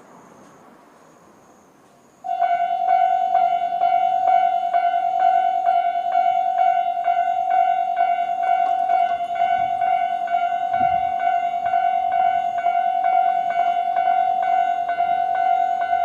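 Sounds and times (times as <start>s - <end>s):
level-crossing alarm bell ringing: 2.3s - 16.0s.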